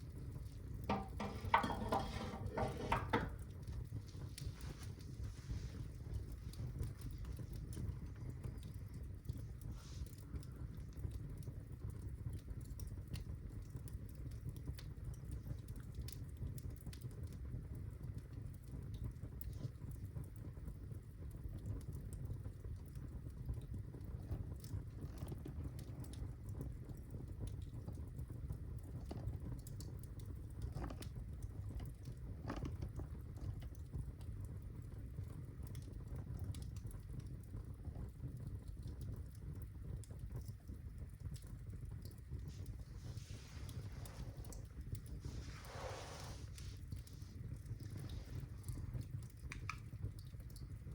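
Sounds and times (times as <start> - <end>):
logs crackling and popping: 0.0 - 50.9
low rumble of flames: 0.0 - 50.9.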